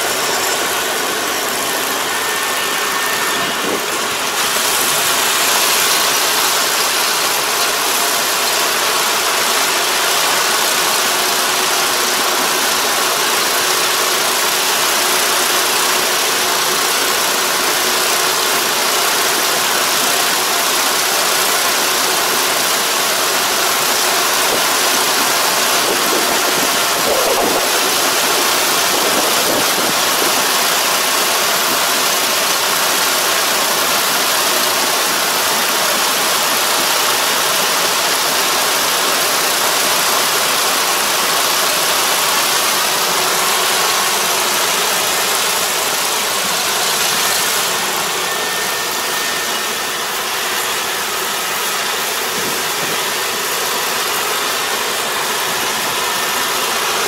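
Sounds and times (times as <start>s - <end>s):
distant combine harvester running: 0.0s - 57.0s.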